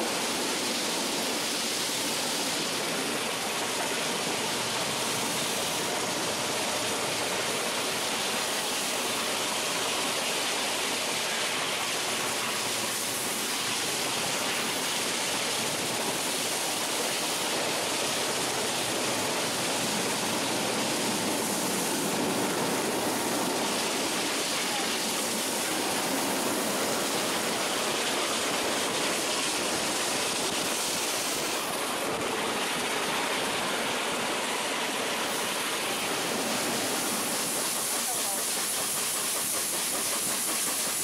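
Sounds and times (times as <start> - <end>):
train rushing at speed: 0.0 - 41.0.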